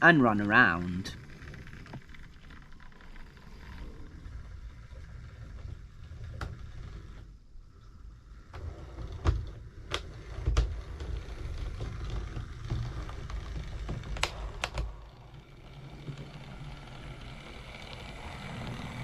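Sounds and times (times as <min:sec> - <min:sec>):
model train motor rumble: 0:00.7 - 0:19.0
wheels clicking over rail joints: 0:00.7 - 0:19.0.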